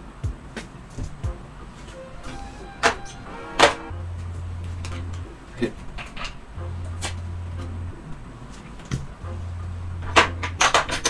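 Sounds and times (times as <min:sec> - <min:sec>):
low hum: 0:01.3 - 0:10.7.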